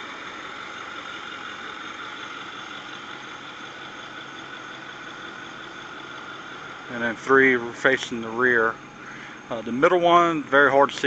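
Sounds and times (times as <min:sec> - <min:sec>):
pickup trucks idling: 0:00.0 - 0:11.0.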